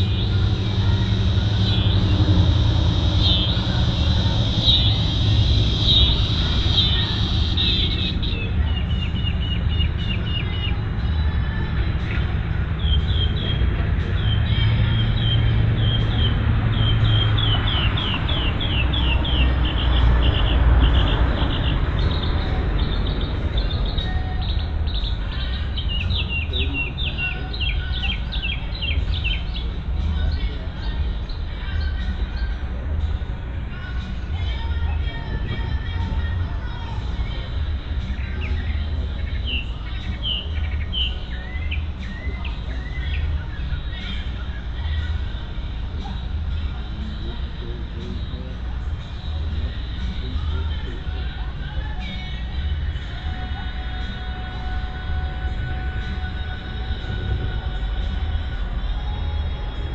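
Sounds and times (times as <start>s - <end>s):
songbird chirping: 0.0s - 59.9s
steady low rumble: 0.0s - 59.9s.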